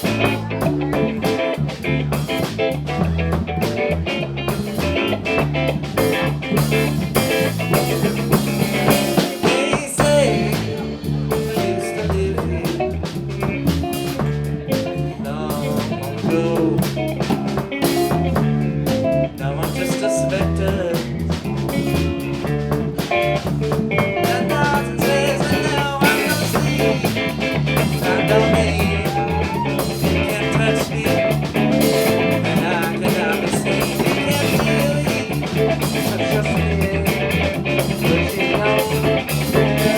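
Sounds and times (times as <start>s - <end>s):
bass guitar: 0.0s - 39.9s
drum kit beat: 0.0s - 39.9s
electric guitar with bent notes: 0.0s - 39.9s.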